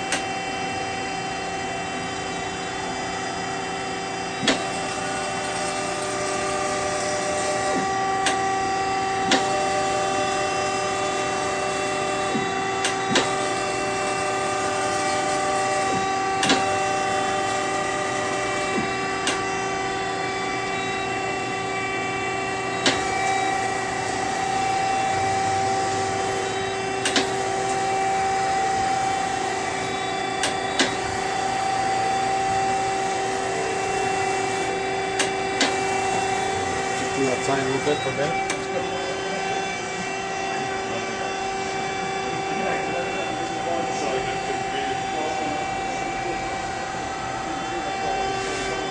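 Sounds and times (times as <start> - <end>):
machining center spindle whining: 0.0 - 48.9.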